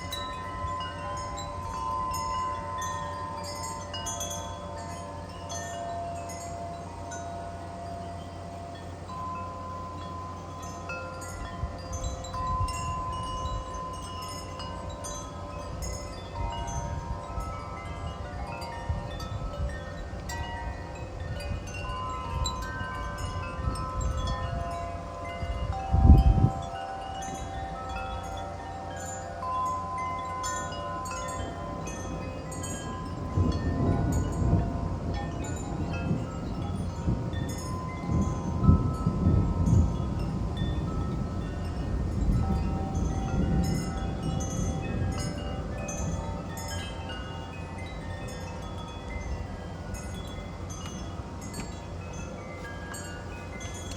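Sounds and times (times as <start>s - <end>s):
metal wind chimes ringing: 0.0s - 53.9s
wind rumble on microphone: 0.0s - 53.9s.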